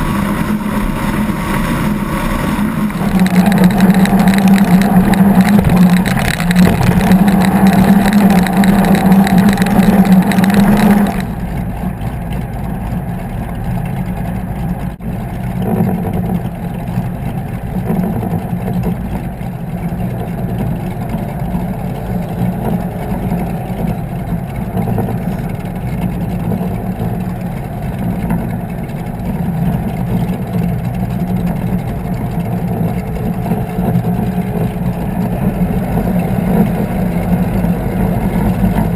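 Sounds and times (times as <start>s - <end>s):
powerboat engines running: 0.0s - 38.9s.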